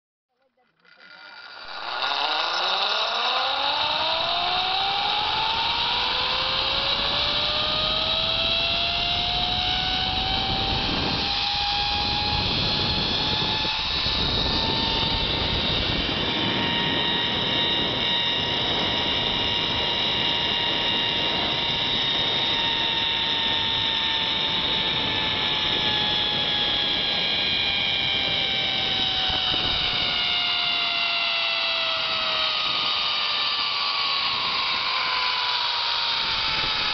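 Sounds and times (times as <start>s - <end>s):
pulley whine on cable: 0.4s - 36.9s.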